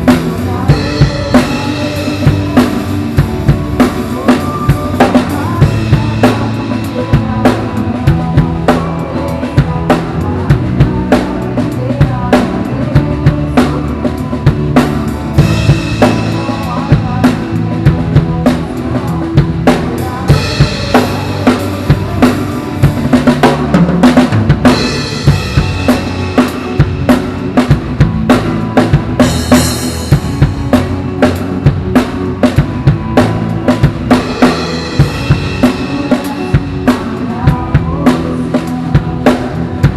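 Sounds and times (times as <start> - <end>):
recorded worship song backing music: 0.0 - 27.7, 33.3 - 39.9
drum kit beat: 0.0 - 39.9.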